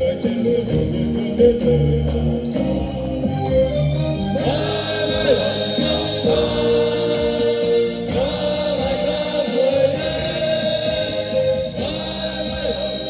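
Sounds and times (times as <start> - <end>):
group singing military song: 0.0 - 3.6, 4.2 - 13.0
instrumental accompaniment: 0.0 - 13.0.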